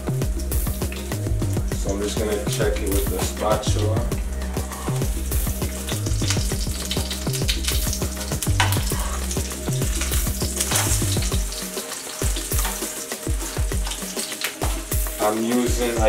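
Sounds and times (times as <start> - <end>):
background music with bass beat: 0.0 - 16.0
omelette sizzling in oil: 0.0 - 16.0.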